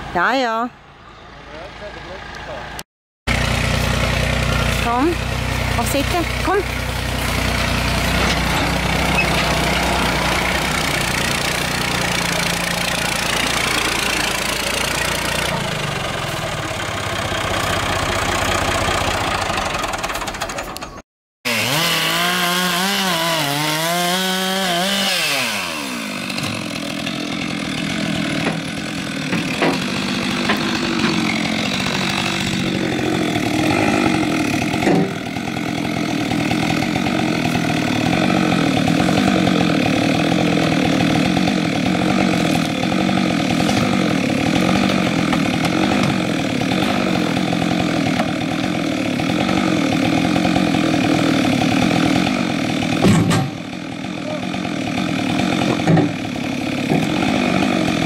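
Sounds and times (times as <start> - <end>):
tractor engine running: 0.0 - 58.0
chainsaw cutting log: 3.3 - 58.0.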